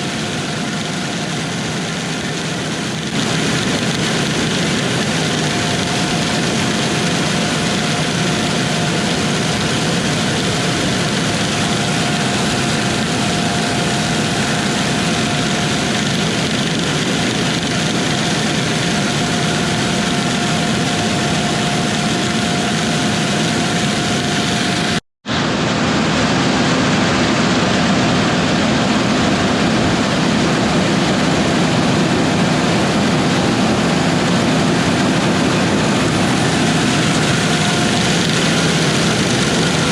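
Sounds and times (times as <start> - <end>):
farm machinery engines running: 0.0 - 39.9
low hum: 0.0 - 39.9
thin steady whine: 0.0 - 39.9.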